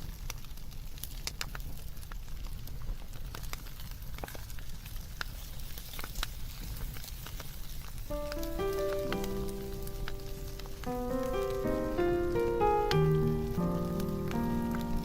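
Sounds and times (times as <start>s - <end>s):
wood crackling and popping: 0.0s - 15.0s
fire low rumble: 0.1s - 15.0s.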